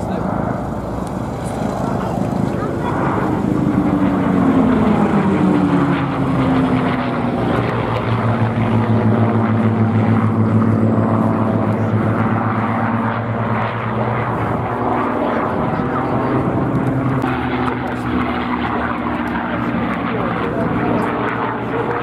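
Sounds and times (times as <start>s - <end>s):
propeller aircraft engines overhead: 0.0s - 22.0s.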